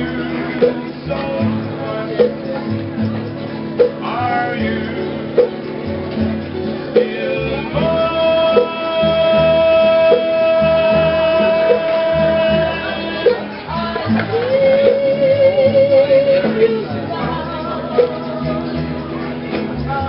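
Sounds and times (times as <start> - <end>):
person singing: 0.0 - 2.8, 4.0 - 5.5, 6.8 - 20.0
plucked guitar: 0.0 - 20.0.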